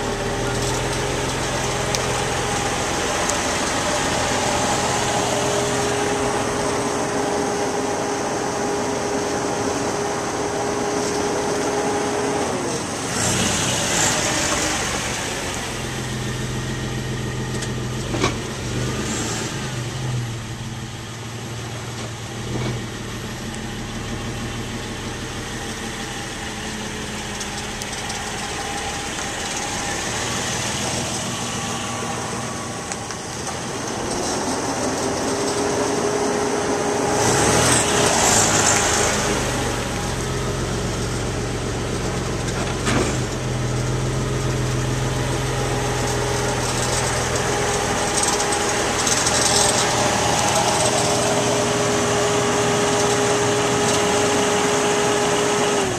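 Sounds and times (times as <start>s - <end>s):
car engine idling and revving: 0.0s - 55.9s.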